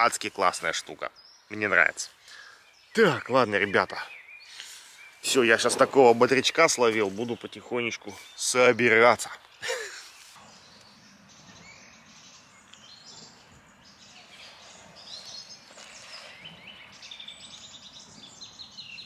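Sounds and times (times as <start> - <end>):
outdoor background hiss: 0.0 - 19.0
songbirds chirping: 0.0 - 19.0.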